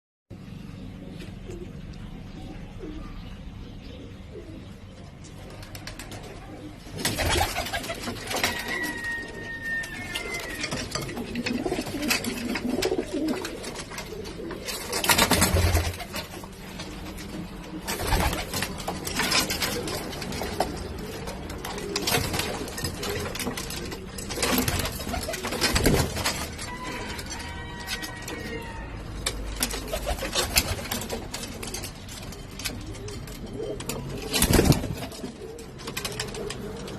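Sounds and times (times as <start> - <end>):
pigeons cooing: 0.4 - 36.9.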